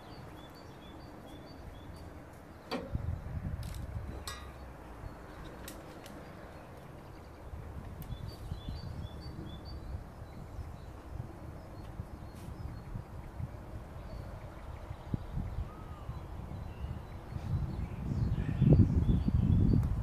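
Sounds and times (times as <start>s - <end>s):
bird chirping: 0.0s - 3.4s, 4.1s - 19.8s.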